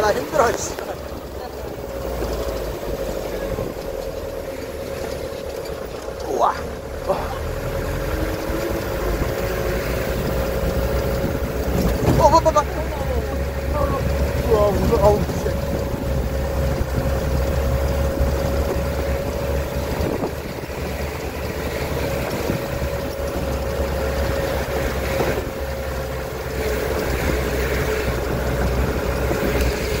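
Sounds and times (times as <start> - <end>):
jeep engine running: 0.0 - 30.0.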